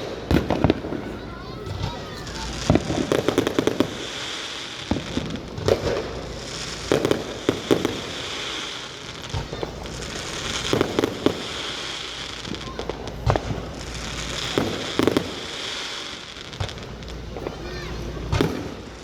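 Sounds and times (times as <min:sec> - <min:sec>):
fireworks banging and crackling: 0:00.0 - 0:19.0
fireworks hissing: 0:00.0 - 0:19.0.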